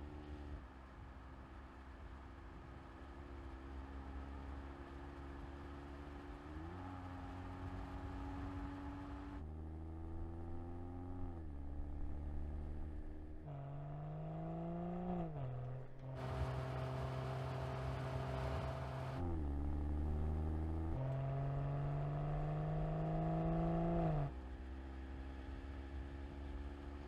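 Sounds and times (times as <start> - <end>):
car engine and exhaust revving: 1.5 - 27.0.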